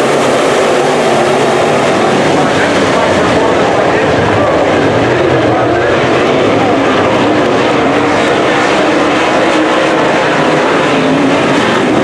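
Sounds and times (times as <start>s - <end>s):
race car engine droning: 0.0s - 12.0s.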